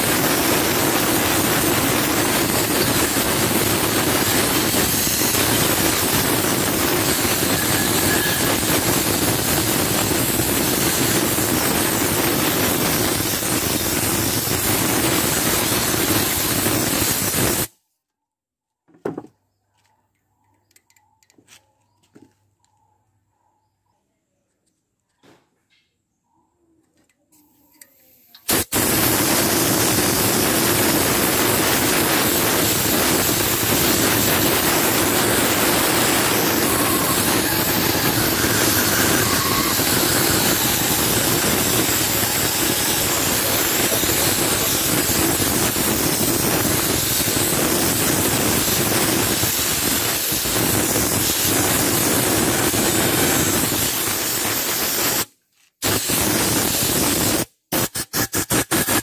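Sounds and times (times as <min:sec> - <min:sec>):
pressure washer water jet hissing: 0:00.0 - 0:17.7, 0:28.0 - 0:59.0.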